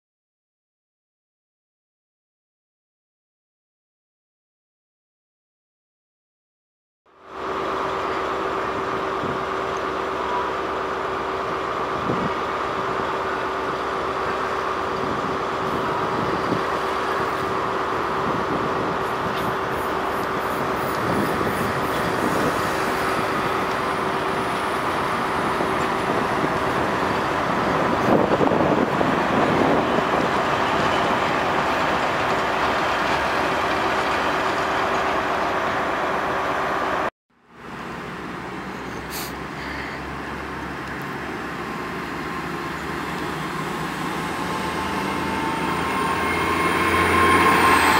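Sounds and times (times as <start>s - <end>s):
quieter train sound: 7.1s - 47.9s
train engine drone: 7.1s - 47.9s.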